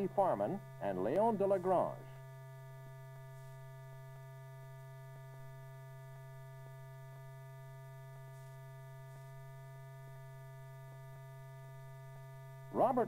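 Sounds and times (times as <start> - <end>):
faint steady tones: 0.0 - 13.0
low electrical hum: 0.0 - 13.0.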